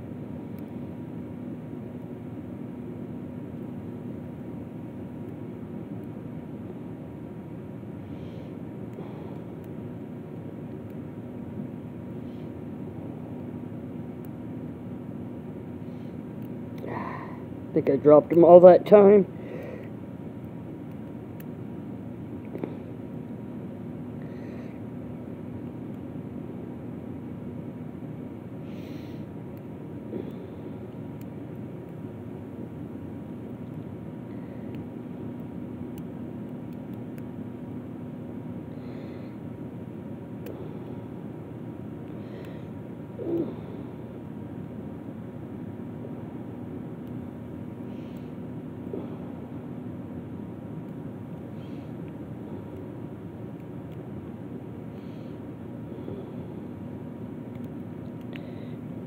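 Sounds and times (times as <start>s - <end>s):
low machine hum and hiss: 0.0s - 59.0s
low rumbling background noise: 0.0s - 59.0s.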